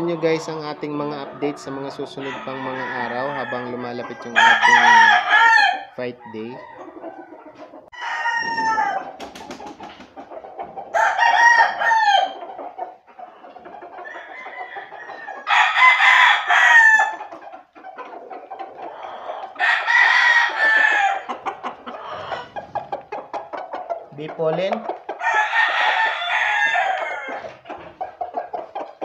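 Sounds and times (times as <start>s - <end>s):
roosters crowing: 1.3s - 9.8s, 10.8s - 24.2s, 25.0s - 29.0s.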